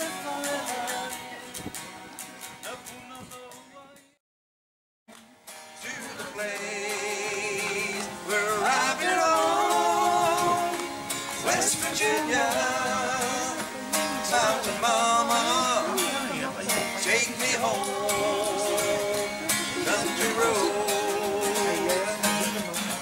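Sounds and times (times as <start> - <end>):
man singing: 0.0 - 1.6, 2.6 - 4.2, 5.8 - 23.0
acoustic guitar strummed: 0.0 - 4.2, 5.4 - 23.0.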